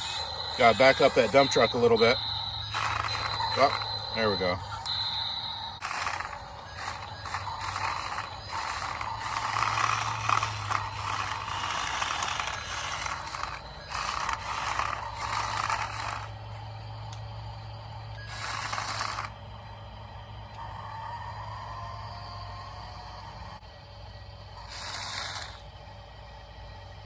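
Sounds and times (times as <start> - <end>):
toy gear motors whirring and grinding: 0.0 - 19.6, 20.5 - 27.0.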